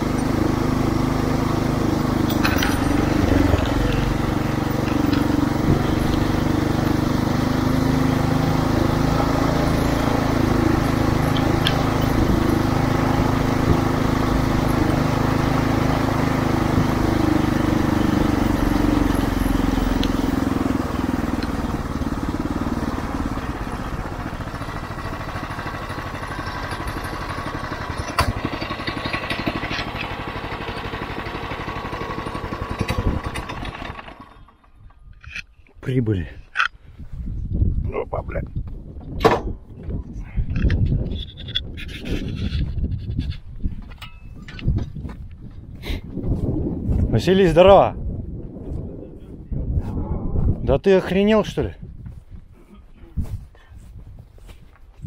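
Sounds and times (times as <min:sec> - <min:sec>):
vehicle engine running: 0:00.0 - 0:37.2, 0:38.6 - 0:55.0.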